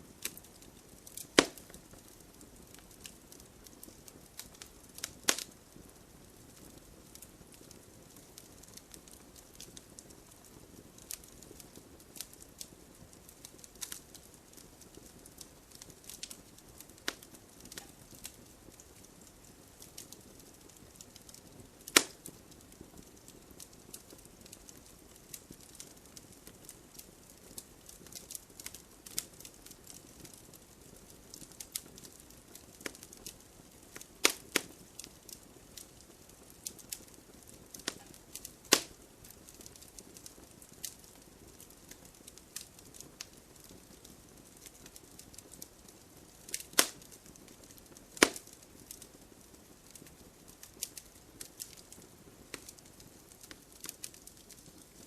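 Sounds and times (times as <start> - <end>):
firewood crackling and popping: 0.0 - 55.0
flame hiss: 0.0 - 55.0.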